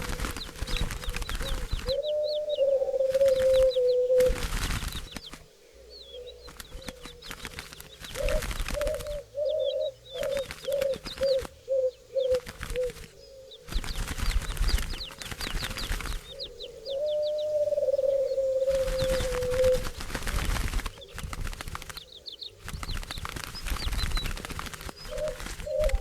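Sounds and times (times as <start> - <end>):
doves cooing: 0.0 - 26.0
small birds chirping: 0.0 - 26.0
wingbeats: 0.0 - 26.0.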